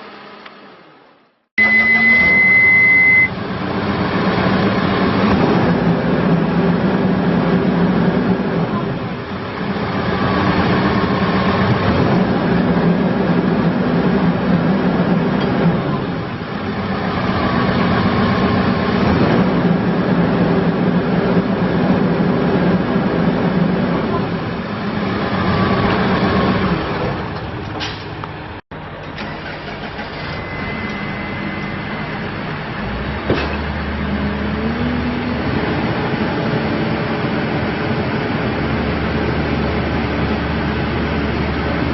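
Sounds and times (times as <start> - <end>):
diesel engine running: 1.6 - 41.9.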